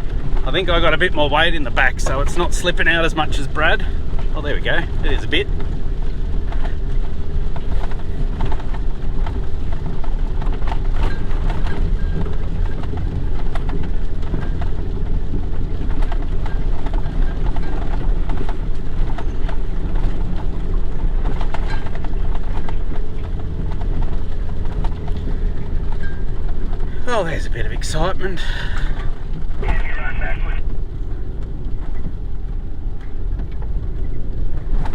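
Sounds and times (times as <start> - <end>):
rain taps on vehicle body: 0.0 - 34.9
vehicle engine droning: 0.0 - 34.9.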